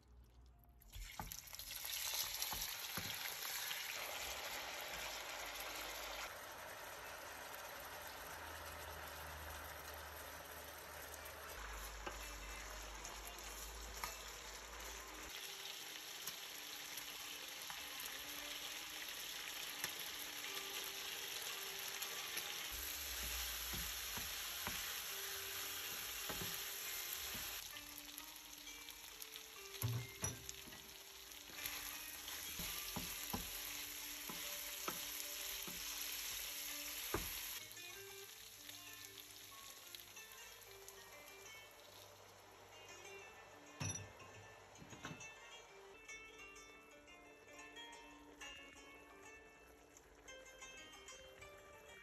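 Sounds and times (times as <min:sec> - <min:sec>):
chicken sizzling in oil: 0:00.9 - 0:43.6.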